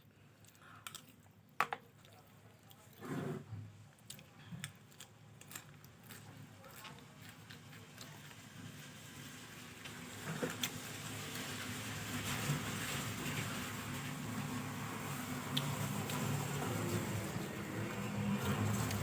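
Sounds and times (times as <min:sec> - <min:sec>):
eating and mouth noises: 0:00.0 - 0:11.5, 0:15.2 - 0:19.0.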